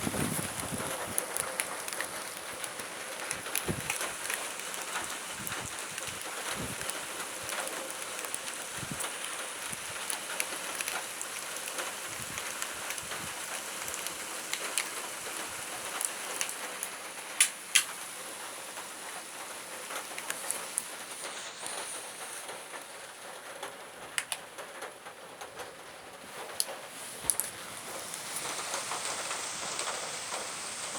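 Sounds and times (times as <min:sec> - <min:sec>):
rain hissing: 0:00.0 - 0:30.9
raindrops tapping: 0:00.0 - 0:30.9.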